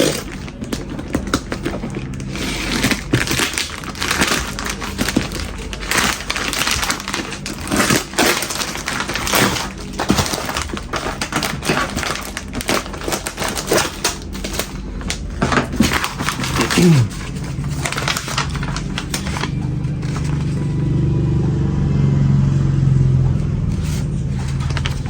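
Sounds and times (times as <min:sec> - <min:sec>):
packaging crinkling: 0:00.0 - 0:20.7, 0:23.6 - 0:25.0.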